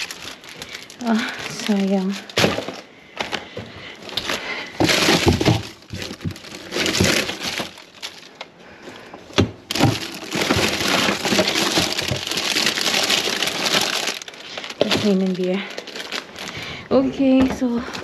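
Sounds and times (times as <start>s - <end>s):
plastic bags rustling: 0.0s - 18.0s.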